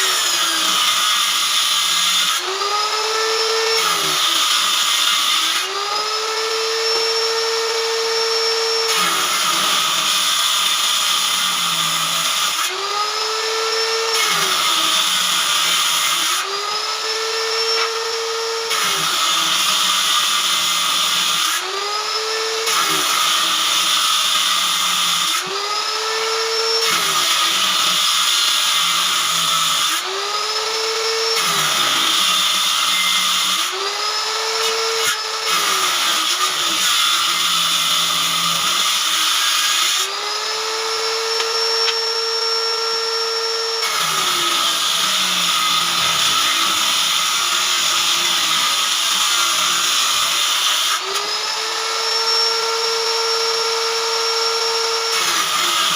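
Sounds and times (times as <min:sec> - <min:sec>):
power tool cutting wood: 0:00.0 - 0:55.9.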